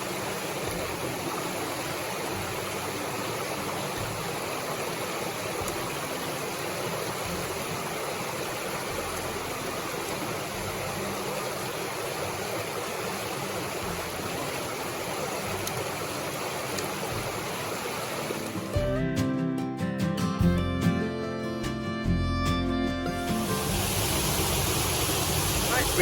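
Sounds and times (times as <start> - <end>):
mountain river rushing: 0.0 - 18.9, 23.1 - 26.0.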